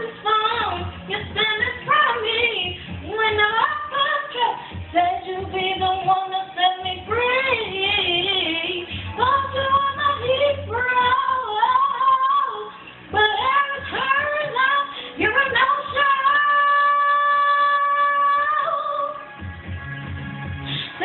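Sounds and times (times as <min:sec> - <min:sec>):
girl singing: 0:00.0 - 0:19.2.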